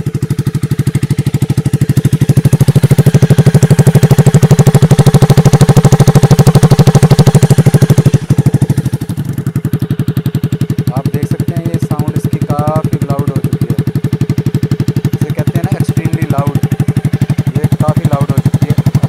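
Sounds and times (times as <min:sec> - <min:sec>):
motorcycle engine exhaust: 0:00.0 - 0:19.0.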